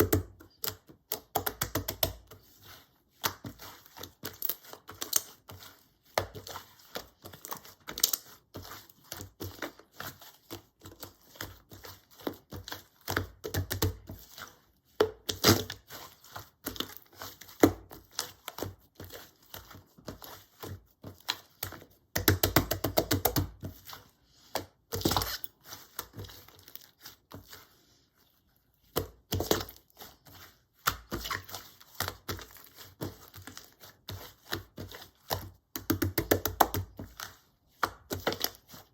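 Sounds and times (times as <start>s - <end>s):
hands squishing slime: 0.0s - 38.9s.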